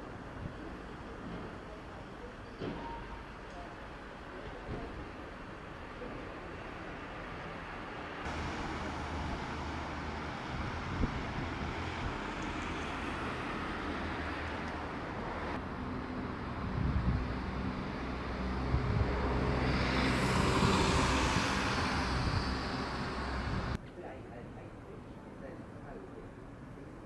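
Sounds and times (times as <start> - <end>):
street traffic hum: 0.0 - 27.0.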